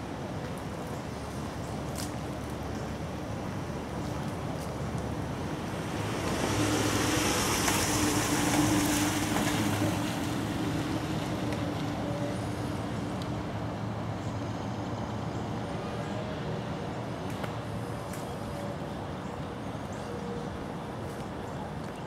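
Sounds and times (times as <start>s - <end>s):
road noise: 0.0s - 22.0s
vehicle engine hum: 0.0s - 22.0s.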